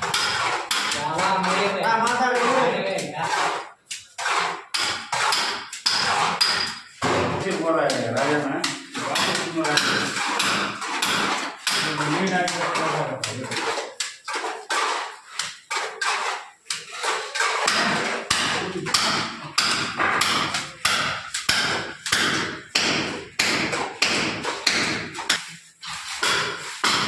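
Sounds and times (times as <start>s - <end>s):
trowel scraping mortar: 0.0s - 27.0s.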